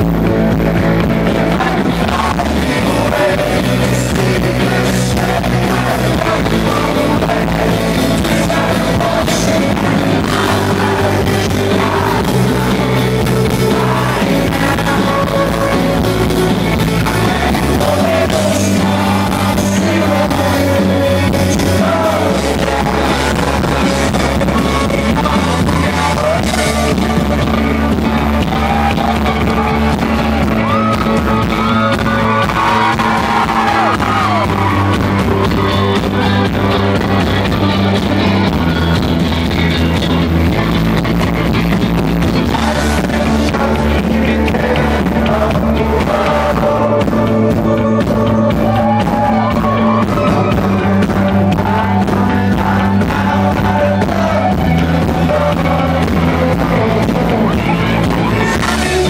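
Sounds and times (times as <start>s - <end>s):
live rock band playing: 0.0s - 59.0s
person singing: 0.7s - 59.0s.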